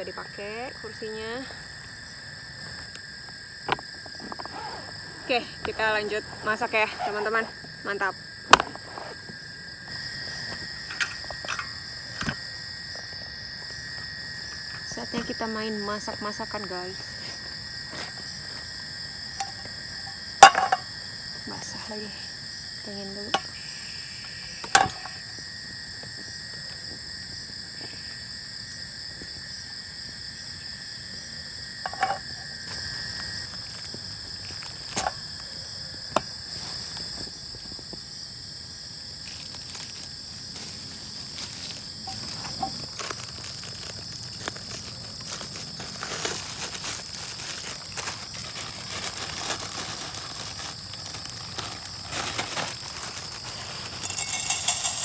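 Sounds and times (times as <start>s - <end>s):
crickets and insects chirping: 0.0s - 55.0s.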